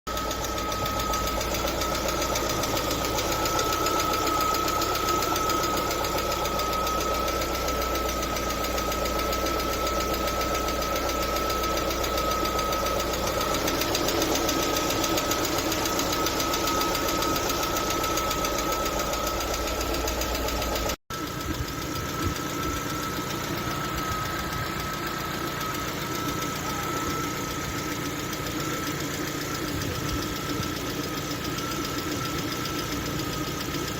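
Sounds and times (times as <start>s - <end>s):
car engine running: 0.1s - 33.9s.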